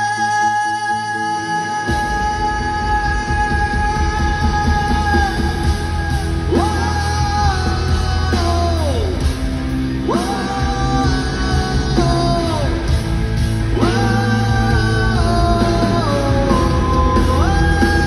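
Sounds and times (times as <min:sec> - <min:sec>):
rock band playing unplugged: 0:00.0 - 0:18.0.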